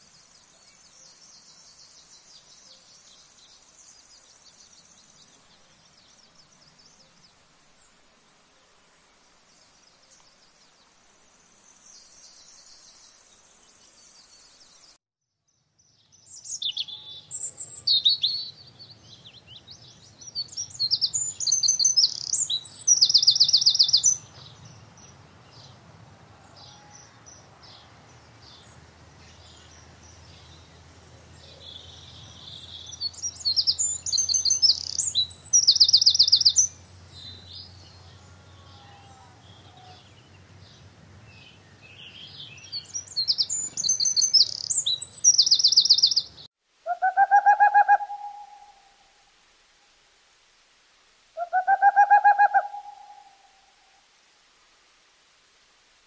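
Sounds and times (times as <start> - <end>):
songbirds chirping and trilling: 0.0 - 48.8.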